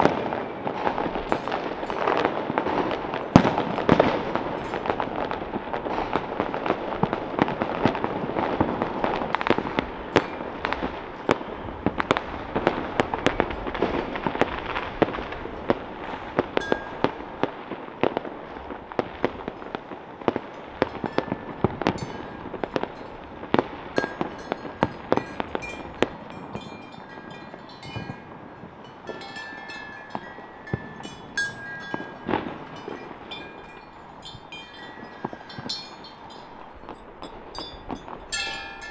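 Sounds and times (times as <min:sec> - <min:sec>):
firecracker cracks: 0:00.0 - 0:38.9
fireworks banging: 0:00.0 - 0:38.9.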